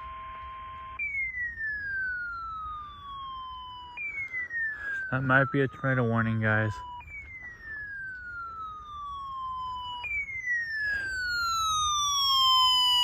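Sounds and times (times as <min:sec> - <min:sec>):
siren-like alert tone: 0:00.0 - 0:13.0.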